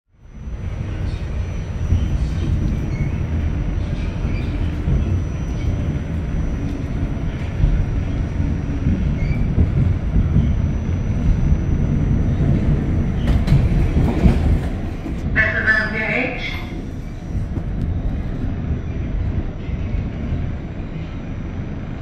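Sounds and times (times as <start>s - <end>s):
subway car rumbling on rails: 0.1s - 22.0s.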